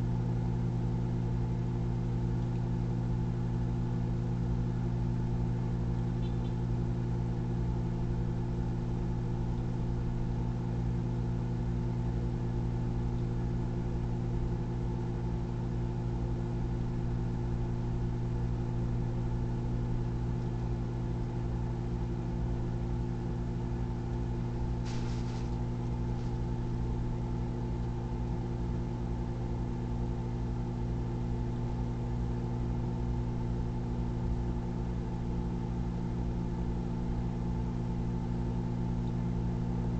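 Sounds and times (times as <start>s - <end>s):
microwave oven humming: 0.0s - 39.9s.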